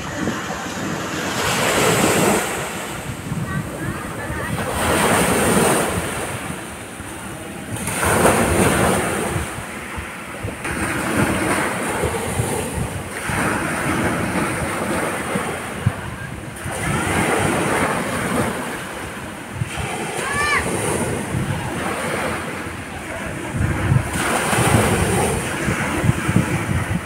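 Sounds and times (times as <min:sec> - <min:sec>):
sea waves breaking on beach: 0:00.0 - 0:27.0.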